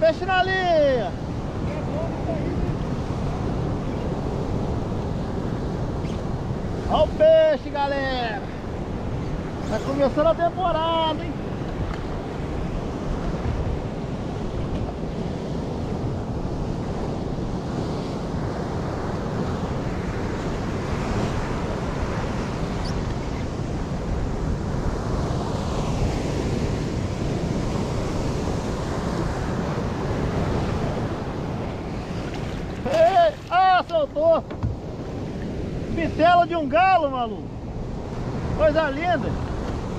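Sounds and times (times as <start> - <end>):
sea waves and surf: 0.0 - 39.9
wind buffeting microphone: 0.0 - 39.9.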